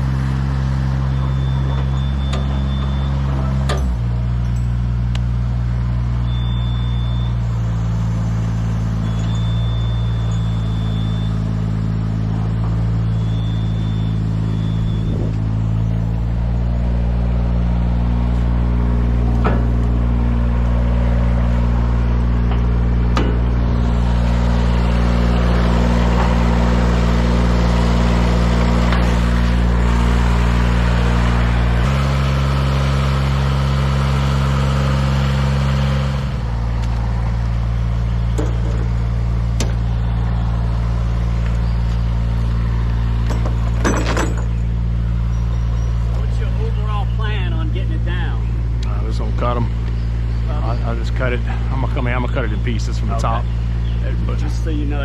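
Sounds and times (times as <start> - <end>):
large engine droning: 0.0 - 55.0.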